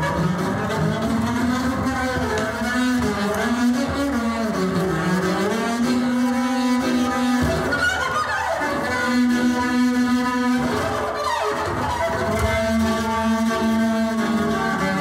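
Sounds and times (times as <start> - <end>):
bowed double bass: 0.0 - 15.0.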